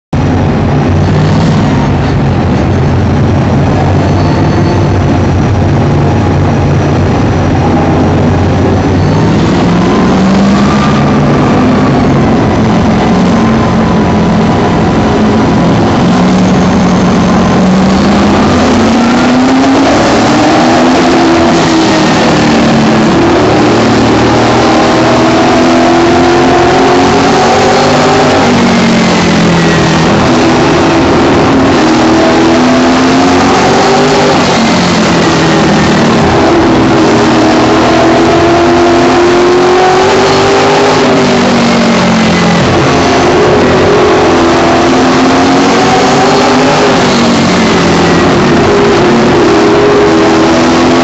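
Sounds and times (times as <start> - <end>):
other race car engines: 0.0 - 51.0
race car engine running hard: 0.1 - 51.0.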